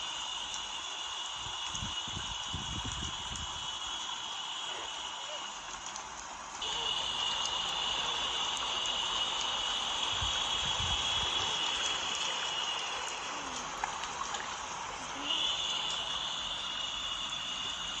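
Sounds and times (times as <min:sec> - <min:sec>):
higher hissing layer: 0:00.0 - 0:18.0
steady white noise hiss: 0:00.0 - 0:18.0.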